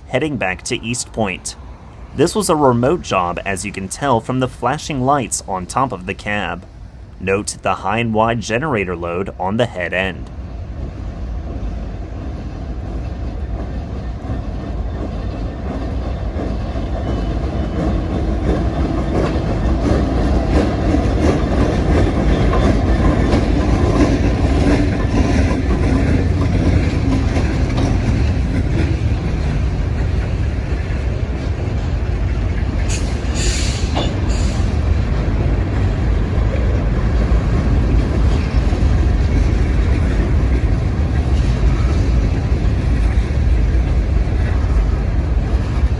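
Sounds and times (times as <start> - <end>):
freight train passing: 0.0 - 45.9.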